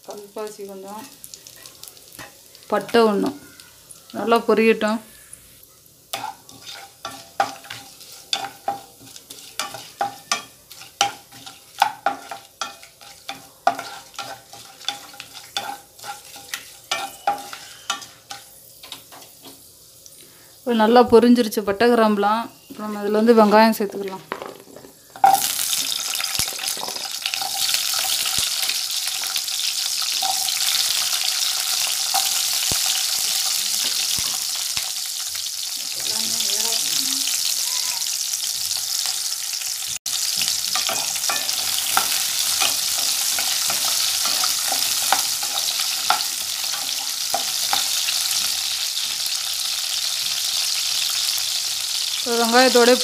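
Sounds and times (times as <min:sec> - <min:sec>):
shallots sizzling in hot oil: 0:00.0 - 0:53.0.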